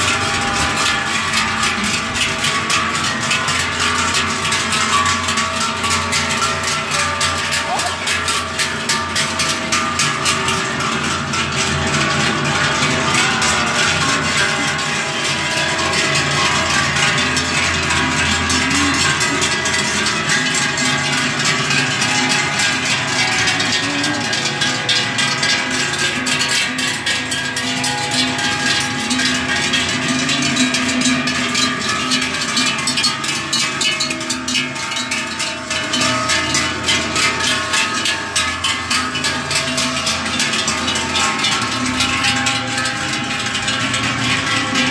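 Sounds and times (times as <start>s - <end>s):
cowbells clanging: 0.0s - 44.9s.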